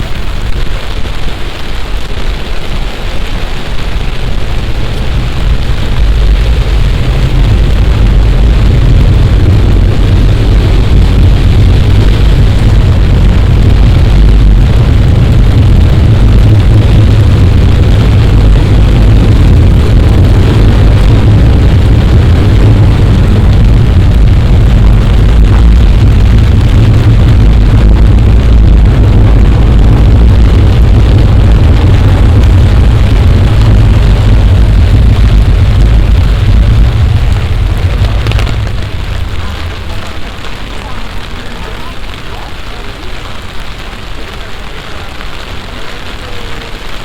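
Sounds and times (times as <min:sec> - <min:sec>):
deep rumble: 0:00.0 - 0:47.0
heavy rain downpour: 0:00.0 - 0:47.0.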